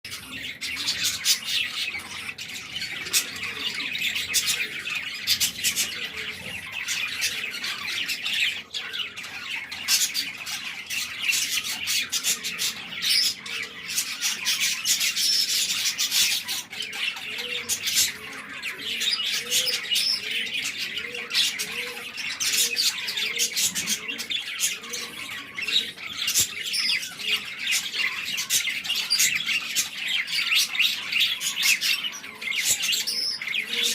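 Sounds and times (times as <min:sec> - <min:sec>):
budgerigars chirping and squawking: 0:00.1 - 0:33.9.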